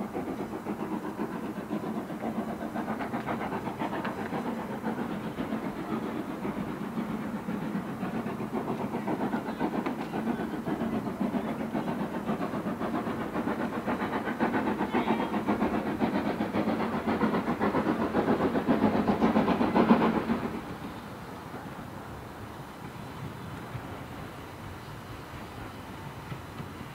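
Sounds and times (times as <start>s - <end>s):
steam locomotive exhaust beating: 0.0s - 26.9s.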